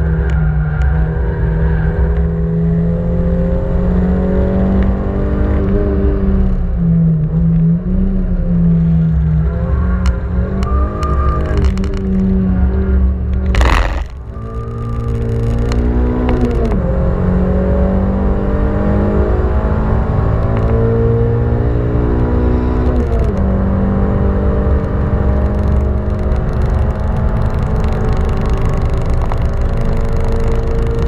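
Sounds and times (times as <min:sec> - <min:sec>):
car engine revving under load: 0:00.0 - 0:31.0.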